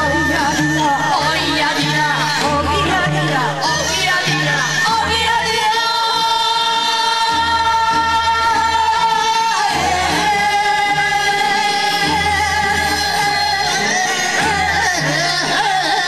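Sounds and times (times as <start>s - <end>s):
group of voices singing: 0.0s - 16.0s
instrumental accompaniment with bass: 0.0s - 16.0s
woman singing folk song: 0.0s - 16.0s.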